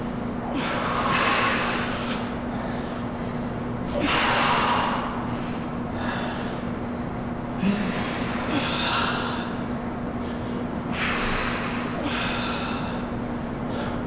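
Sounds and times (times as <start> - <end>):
heavy forceful breathing: 0.0 - 14.0
steady low hum: 0.0 - 14.0.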